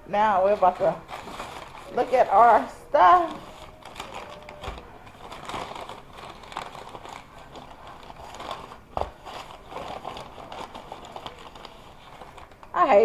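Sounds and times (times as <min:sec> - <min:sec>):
food bag rustling: 0:00.1 - 0:13.0.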